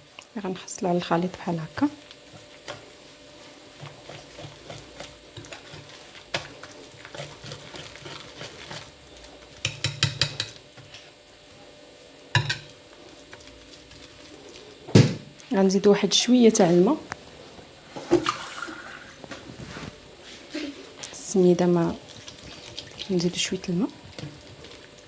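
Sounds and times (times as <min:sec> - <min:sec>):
utensil stirring thick batter: 0:00.0 - 0:11.6, 0:12.4 - 0:15.5, 0:18.2 - 0:25.0.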